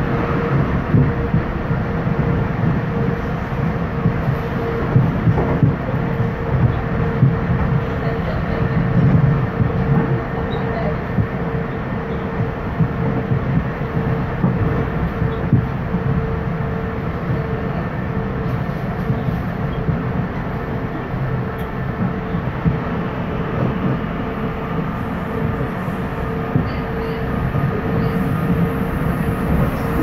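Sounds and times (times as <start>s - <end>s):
rumble of train wheels on rails: 0.0s - 30.0s.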